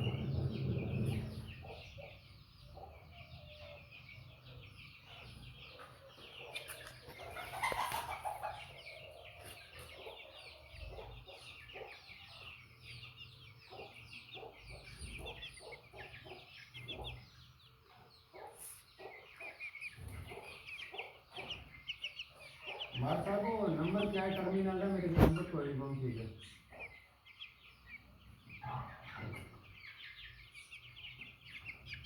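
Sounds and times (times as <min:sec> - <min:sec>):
hens clucking: 0:05.0 - 0:32.0.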